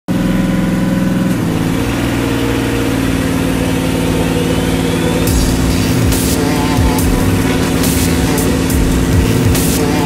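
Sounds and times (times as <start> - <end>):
hydraulic power unit droning: 0.1 - 10.0.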